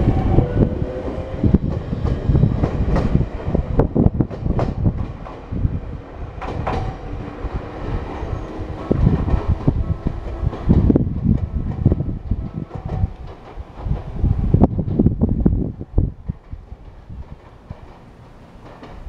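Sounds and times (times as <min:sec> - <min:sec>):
electric train passing: 0:00.0 - 0:19.0
wheels clattering over rail joints: 0:00.0 - 0:19.0.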